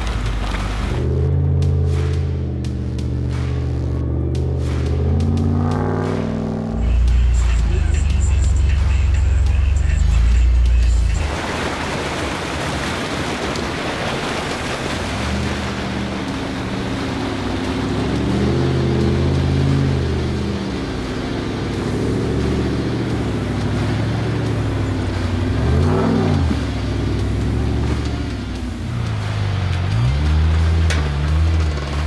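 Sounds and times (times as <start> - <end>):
car engine revving: 0.0 - 32.0
creek water rushing: 4.6 - 32.0.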